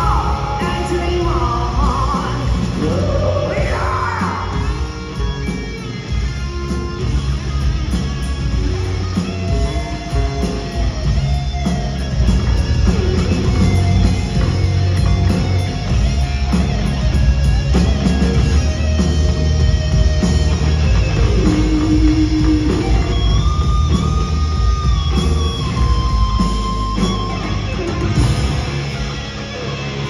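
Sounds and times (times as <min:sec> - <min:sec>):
hard rock band playing: 0:00.0 - 0:30.0
lead guitar bending long notes: 0:00.0 - 0:30.0.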